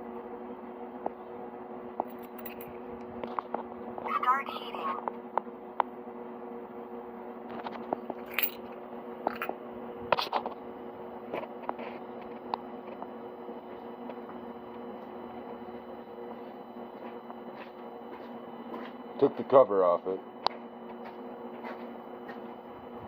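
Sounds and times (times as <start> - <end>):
heater motor humming: 0.0 - 23.0.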